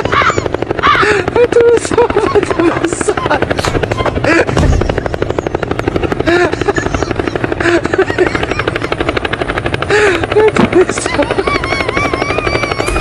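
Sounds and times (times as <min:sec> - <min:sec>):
helicopter rotor chopping: 0:00.0 - 0:13.0.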